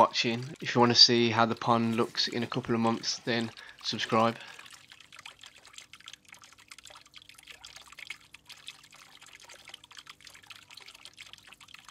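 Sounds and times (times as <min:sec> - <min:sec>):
water trickling into pond: 0:00.0 - 0:11.9.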